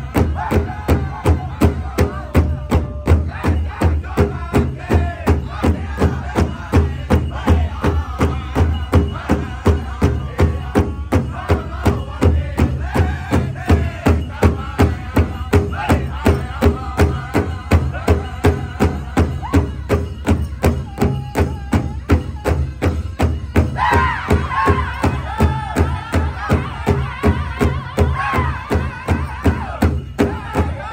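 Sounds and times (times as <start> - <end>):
group of singers chanting: 0.0 - 19.7, 23.7 - 30.9
large drum beats: 0.0 - 30.9.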